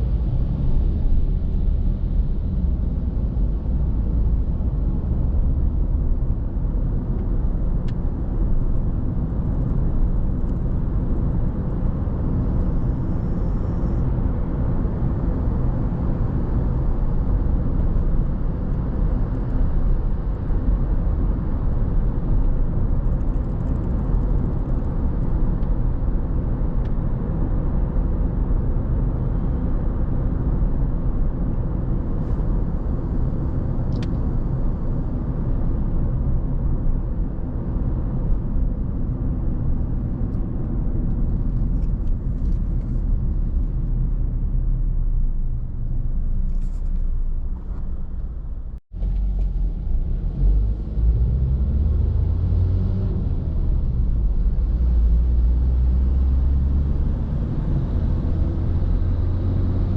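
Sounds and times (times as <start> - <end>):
car driving road noise: 0.0 - 59.9.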